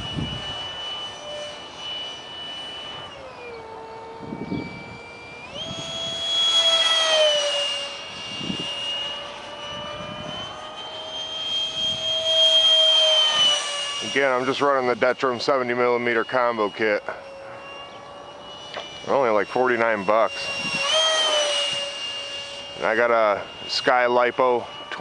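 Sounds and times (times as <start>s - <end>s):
electric ducted fan whining: 0.0s - 25.0s.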